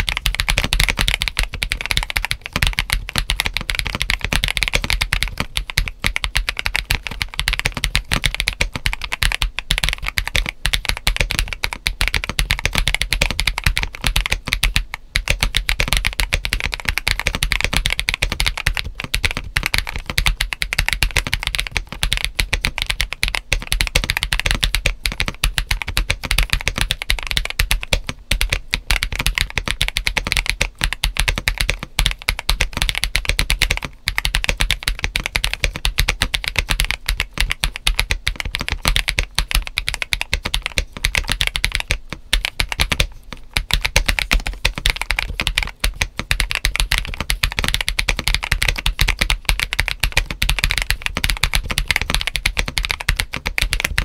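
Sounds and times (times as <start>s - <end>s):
fast mechanical keyboard typing: 0.0s - 54.0s.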